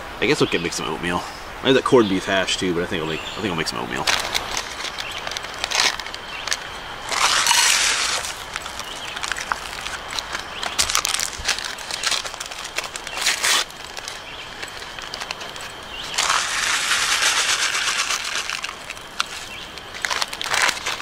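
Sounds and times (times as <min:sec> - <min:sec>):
packaging crinkling and rustling: 0:04.0 - 0:21.0.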